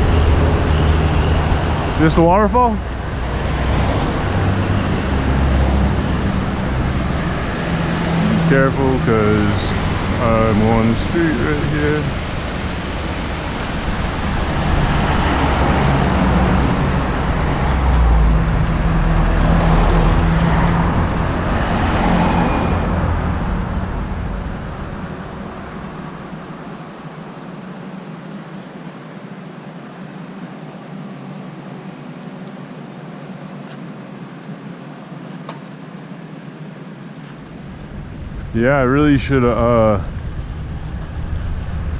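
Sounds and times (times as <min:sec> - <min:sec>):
vehicle passing on road: 0:00.0 - 0:33.4, 0:34.2 - 0:41.9.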